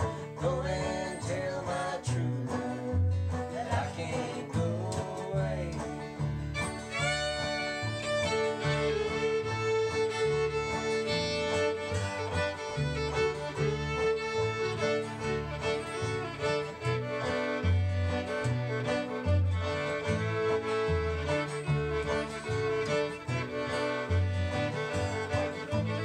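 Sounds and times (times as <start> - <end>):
acoustic guitar: 0.0 - 26.0
banjo: 0.0 - 26.0
fiddle melody: 0.0 - 26.0
upright bass: 0.0 - 26.0.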